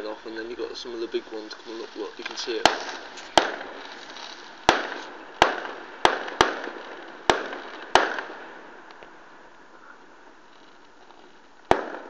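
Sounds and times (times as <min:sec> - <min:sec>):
fireworks bursting bangs: 0:00.0 - 0:12.0.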